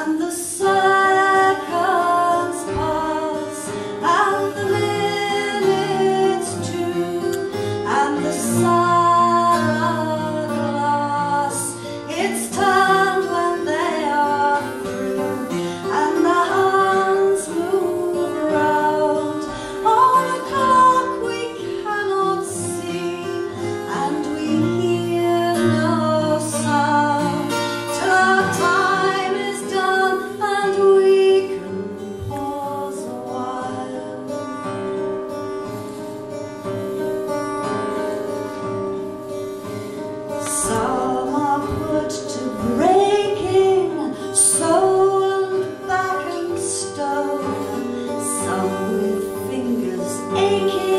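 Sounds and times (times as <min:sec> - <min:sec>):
woman singing: 0:00.0 - 0:35.0, 0:40.2 - 0:50.9
plucked acoustic guitar: 0:00.0 - 0:50.9.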